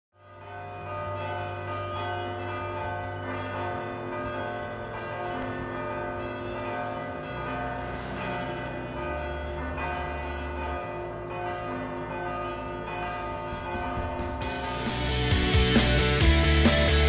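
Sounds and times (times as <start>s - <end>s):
bells chiming: 0.2s - 16.1s.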